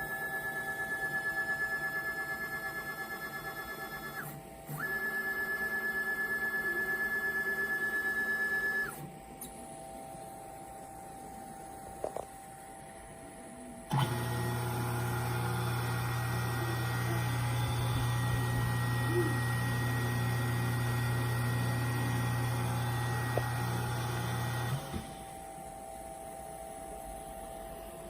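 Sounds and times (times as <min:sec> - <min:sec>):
mill motor humming: 0:00.0 - 0:13.0, 0:13.6 - 0:28.0
faint background hum: 0:00.0 - 0:28.0.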